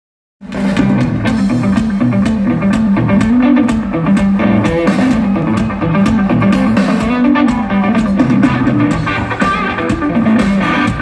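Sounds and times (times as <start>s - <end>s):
drum kit beat: 0.4s - 11.0s
electric guitar riff: 0.5s - 11.0s.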